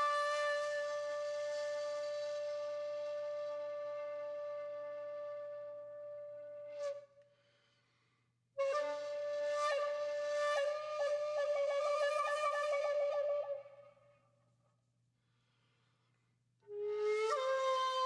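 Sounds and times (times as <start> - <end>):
solo flute: 0.0 - 7.3, 8.6 - 14.4, 16.6 - 18.0.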